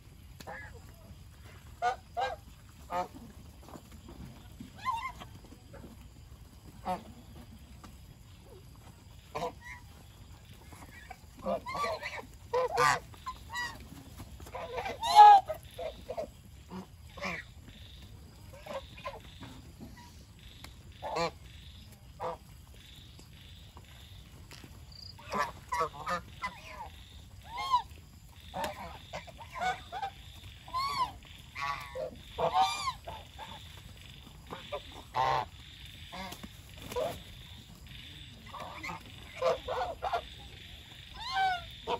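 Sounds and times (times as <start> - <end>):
geese honking: 0.0 - 5.8, 9.1 - 41.9.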